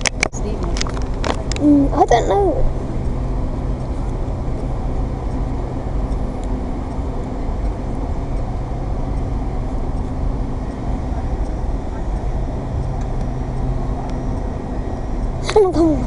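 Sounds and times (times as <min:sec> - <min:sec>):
constant hum: 0:00.0 - 0:16.0
train rumble: 0:00.0 - 0:16.0.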